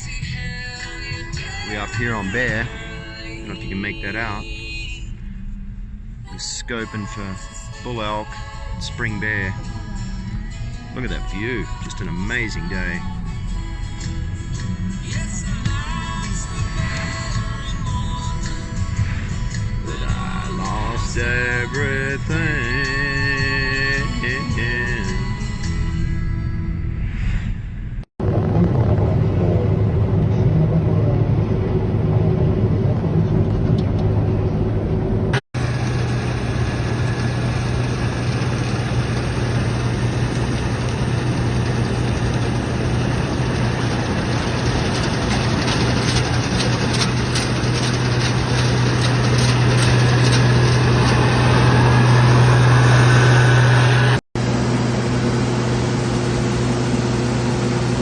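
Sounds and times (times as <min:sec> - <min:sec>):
vehicle engine running: 0:00.0 - 0:27.0, 0:27.9 - 0:58.0.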